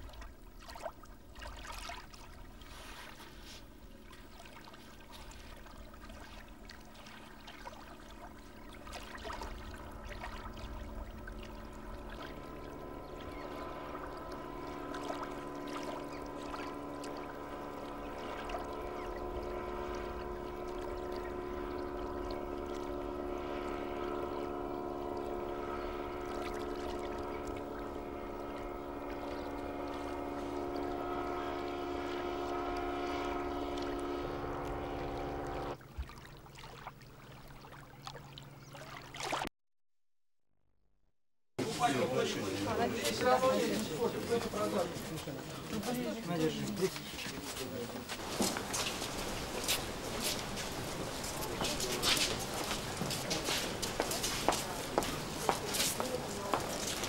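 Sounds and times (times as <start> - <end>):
small waves lapping at shore: 0.0 - 39.5, 41.6 - 57.0
steady motor drone: 0.1 - 35.8, 41.7 - 57.0.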